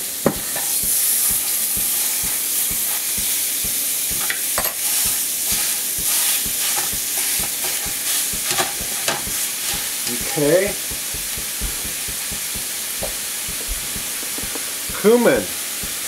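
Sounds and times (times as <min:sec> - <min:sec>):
meat sizzling in a skillet: 0:00.0 - 0:16.0
fork tapping and scraping a pan: 0:00.3 - 0:15.2.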